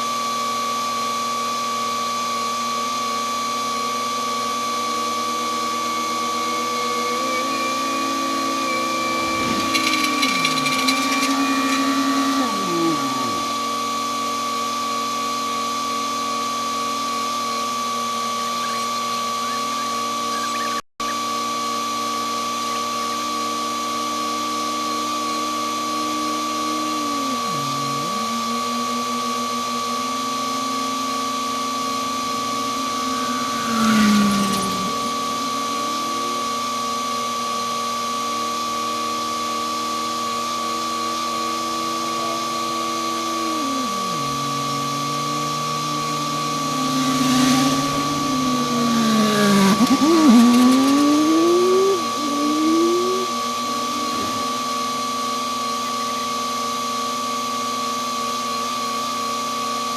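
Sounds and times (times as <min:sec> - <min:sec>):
paving machine engine: 0:00.0 - 0:21.2, 0:22.3 - 0:58.8
high whine: 0:02.2 - 0:21.4, 0:22.4 - 0:57.9.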